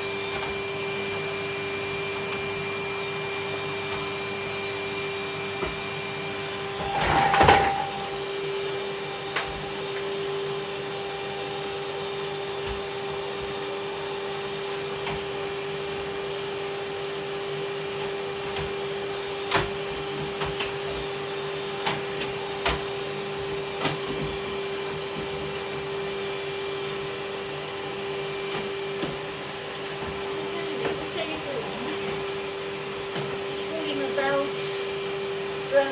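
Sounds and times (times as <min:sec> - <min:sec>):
vacuum cleaner whining: 0:00.0 - 0:35.9.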